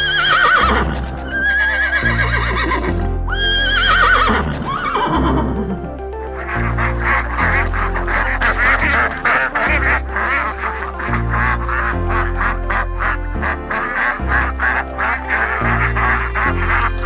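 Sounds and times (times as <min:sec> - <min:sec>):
background music with bass: 0:00.0 - 0:17.0
ducks quacking: 0:00.0 - 0:17.0.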